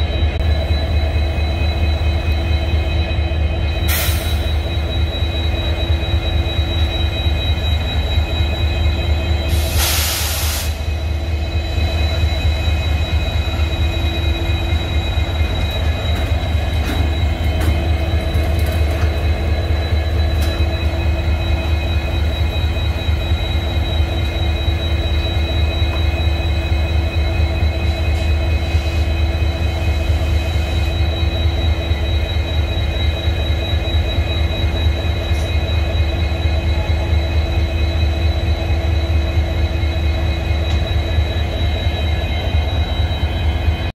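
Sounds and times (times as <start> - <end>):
diesel locomotives idling: 0.0 - 43.9
high constant whine: 0.0 - 43.9.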